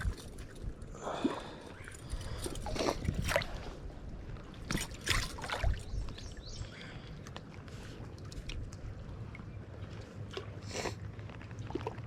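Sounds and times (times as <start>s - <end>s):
water lapping: 0.0s - 12.0s
water sloshing and splashing: 0.0s - 12.0s.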